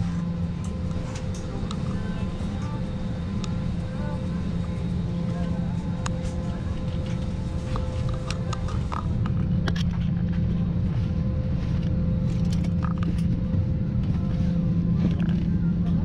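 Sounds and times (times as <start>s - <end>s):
aircraft cabin hum: 0.0s - 16.0s.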